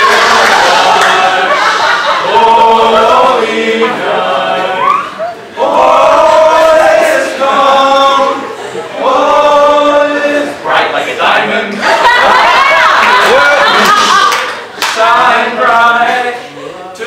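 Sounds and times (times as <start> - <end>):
choir singing held notes: 0.0 - 17.0.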